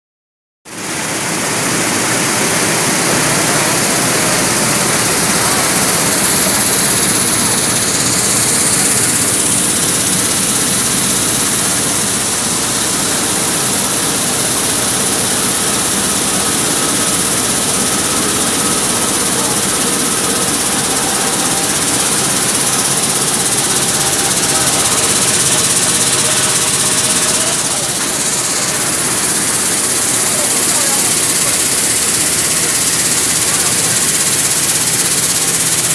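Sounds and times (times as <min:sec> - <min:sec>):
vibrating screens machine noise: 0:00.7 - 0:35.9.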